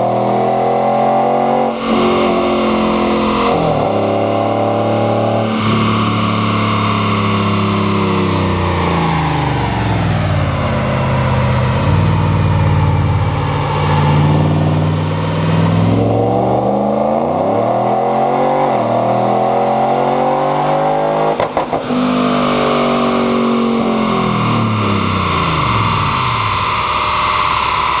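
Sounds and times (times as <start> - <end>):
supercharger whine: 0.0 - 28.0
truck engine revving: 0.0 - 28.0.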